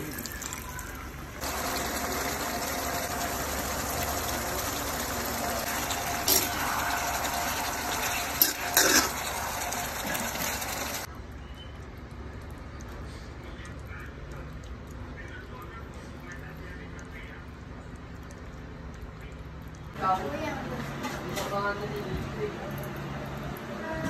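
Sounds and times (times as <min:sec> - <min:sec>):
sauce simmering and bubbling: 0:00.0 - 0:20.5.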